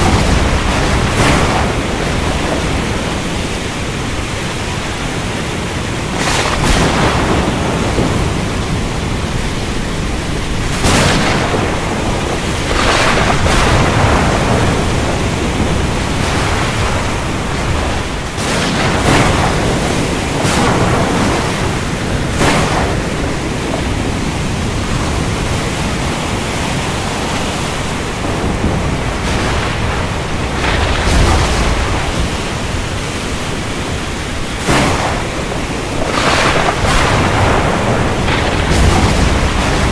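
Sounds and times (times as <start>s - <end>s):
heavy rain: 0.0s - 39.9s
ocean wash: 0.0s - 39.9s
thunder or waves crashing: 0.0s - 39.9s.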